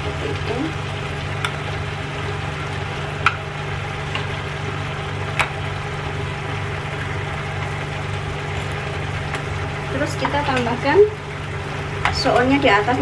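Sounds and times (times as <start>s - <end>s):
mussels simmering and sizzling in a pan: 0.0s - 13.0s
steady low hum: 0.0s - 13.0s.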